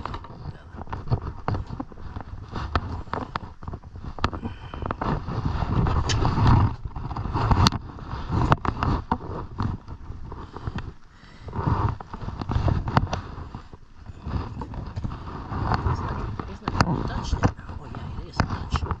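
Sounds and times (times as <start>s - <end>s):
scraping and handling noise: 0.0s - 19.0s.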